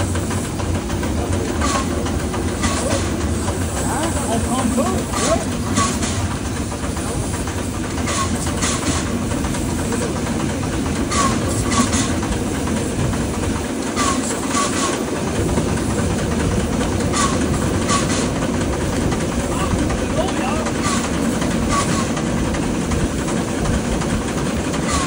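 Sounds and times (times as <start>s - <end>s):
steam train running: 0.0s - 25.0s
wheels clicking over rail joints: 0.0s - 25.0s.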